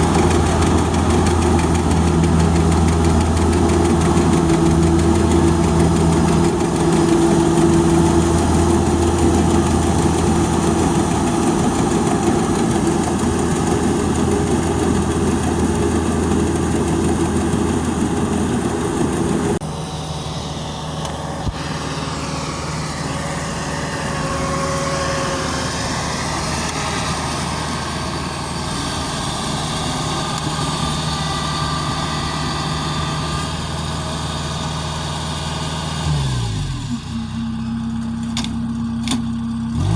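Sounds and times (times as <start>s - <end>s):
harvesting machine engine running: 0.0s - 39.9s.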